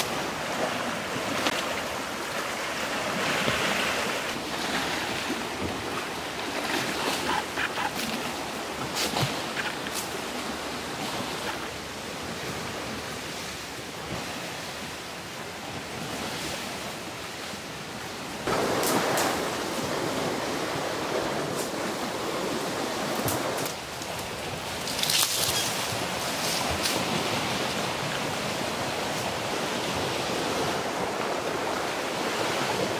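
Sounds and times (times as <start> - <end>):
sea surf on rocky shore: 0.0 - 32.9
wind: 0.0 - 32.9.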